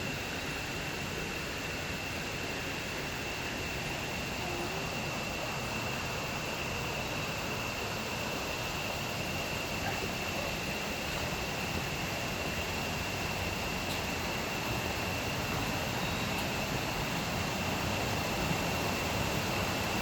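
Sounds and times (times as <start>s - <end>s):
thin high-pitched whine: 0.0s - 20.0s
small stream rushing: 1.9s - 20.0s.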